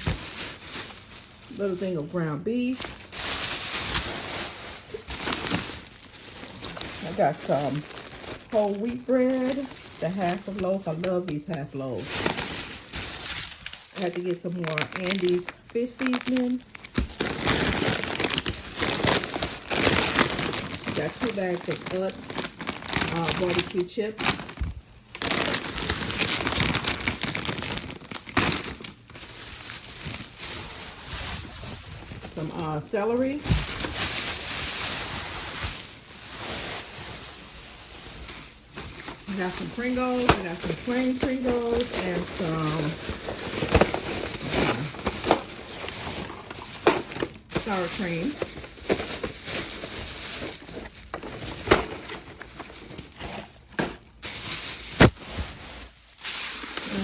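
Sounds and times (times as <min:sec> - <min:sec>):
foil snack bags crinkling: 0:00.0 - 0:57.0
packaging rustling: 0:00.0 - 0:57.0.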